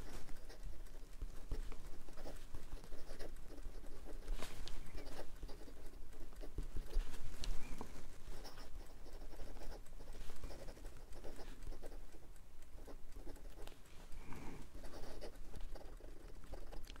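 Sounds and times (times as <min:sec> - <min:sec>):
pen nib scratching on paper: 0:00.0 - 0:17.0.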